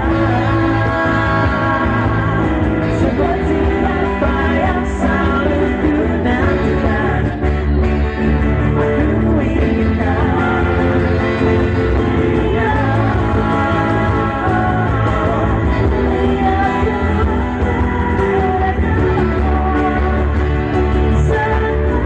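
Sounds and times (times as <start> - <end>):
bass and drums: 0.0 - 22.0
person singing: 0.0 - 22.0.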